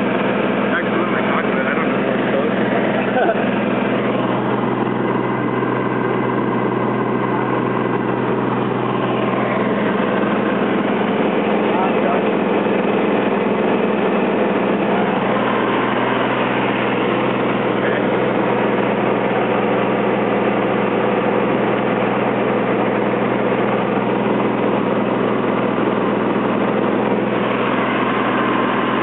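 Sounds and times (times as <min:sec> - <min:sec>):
airplane engine and propeller droning: 0:00.0 - 0:29.0.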